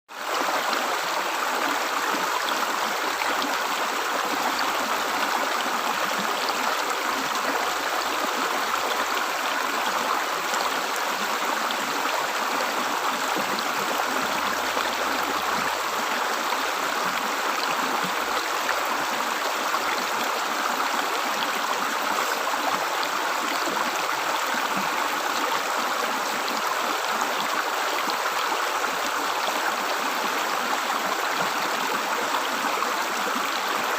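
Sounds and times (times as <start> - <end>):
river water gurgling and rushing: 0.1 - 33.9.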